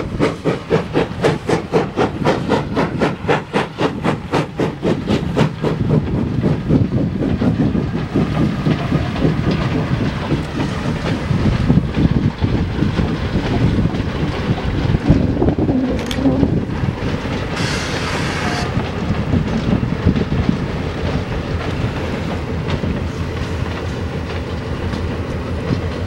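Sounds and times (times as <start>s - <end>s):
steam locomotive chuffing: 0.0s - 26.0s
train wheels rumbling on rails: 0.0s - 26.0s.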